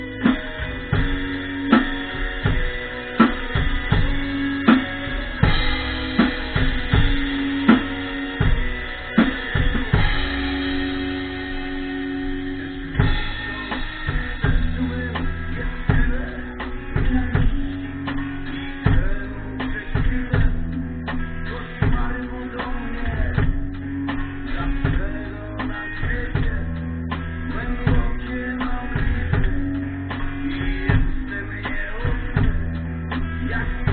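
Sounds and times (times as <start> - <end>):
rock music: 0.0 - 33.9.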